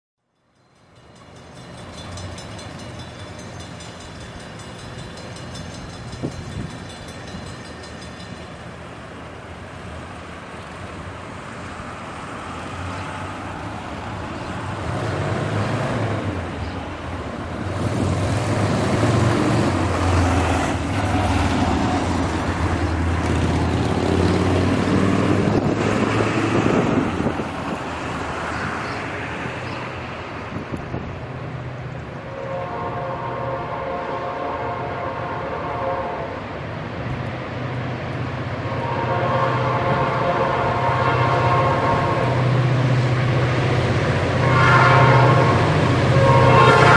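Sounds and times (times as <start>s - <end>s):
locomotive engine rumble: 0.8s - 46.9s.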